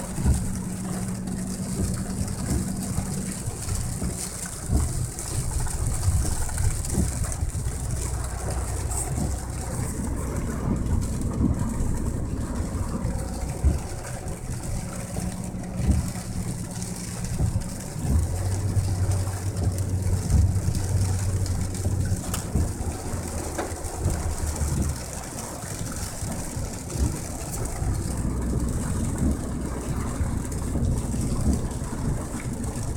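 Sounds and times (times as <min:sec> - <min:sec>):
low mechanical hum: 0:00.0 - 0:32.9
rain hiss: 0:00.0 - 0:32.9
wind gusts buffeting microphone: 0:00.0 - 0:32.9.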